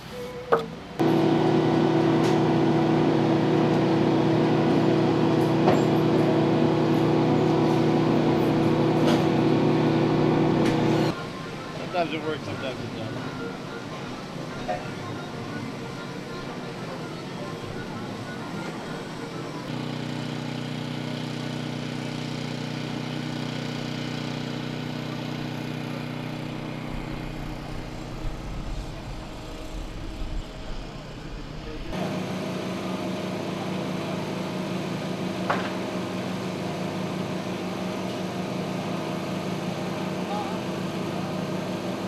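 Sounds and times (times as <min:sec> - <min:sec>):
construction machinery engines humming: 0:00.0 - 0:42.0.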